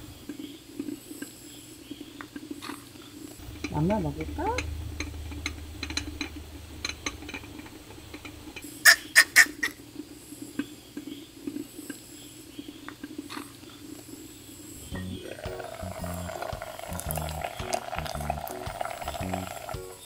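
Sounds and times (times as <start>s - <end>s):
low background hum: 0.0s - 19.7s.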